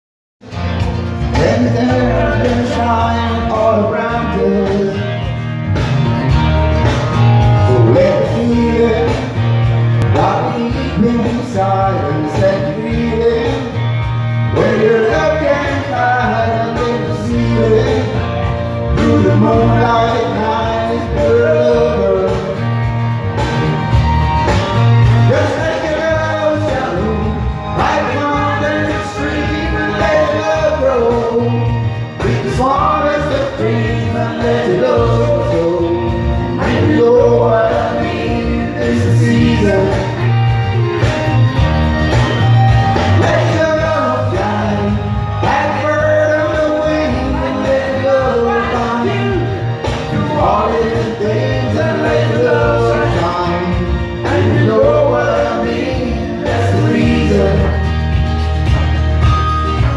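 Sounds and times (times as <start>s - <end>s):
backing track with heavy bass: 0.4s - 59.9s
men singing into microphones: 1.3s - 5.5s, 7.6s - 22.9s, 25.2s - 40.7s, 42.9s - 58.8s.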